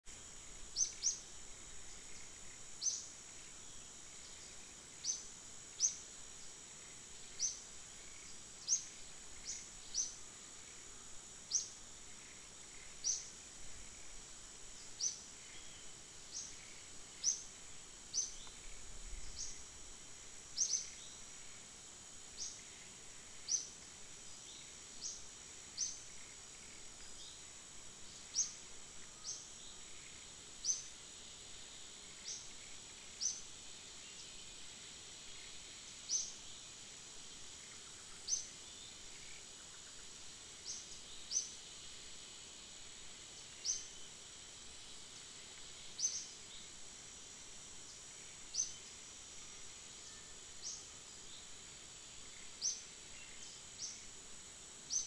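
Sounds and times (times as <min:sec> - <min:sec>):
high-pitched insect drone: 0:00.1 - 0:55.0.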